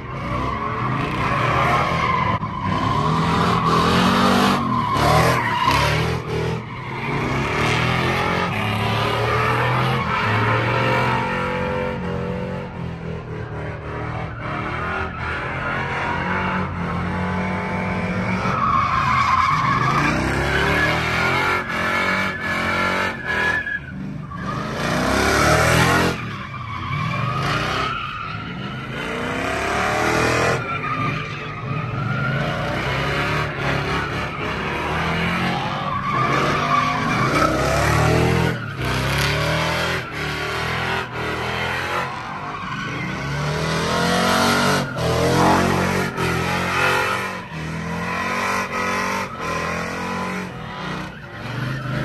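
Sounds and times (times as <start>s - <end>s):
tires screeching on pavement: 0.0s - 52.0s.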